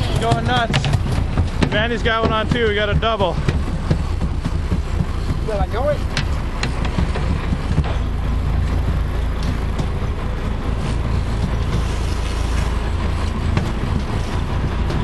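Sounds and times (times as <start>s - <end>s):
boat engine rumbling: 0.0s - 15.0s
water noise: 0.0s - 15.0s
wind: 0.0s - 15.0s.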